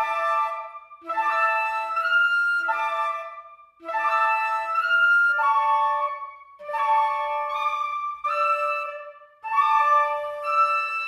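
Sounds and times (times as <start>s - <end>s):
woodwind-like melody: 0.0s - 11.0s.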